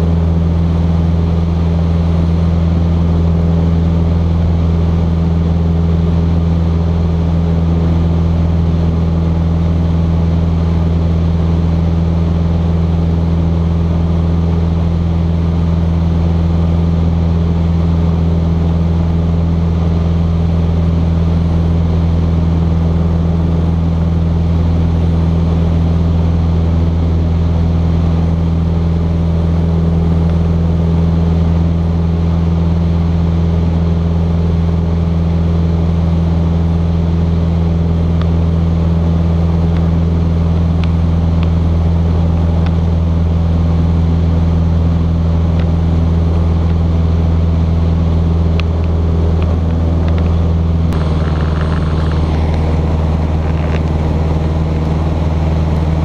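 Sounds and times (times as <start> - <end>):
propeller engine droning in cockpit: 0.0 - 56.0.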